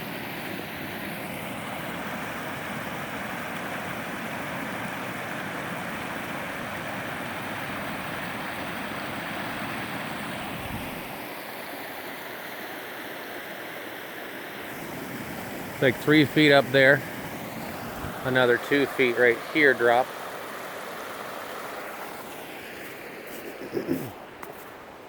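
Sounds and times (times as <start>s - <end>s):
water rushing over a dam: 0.0s - 25.0s.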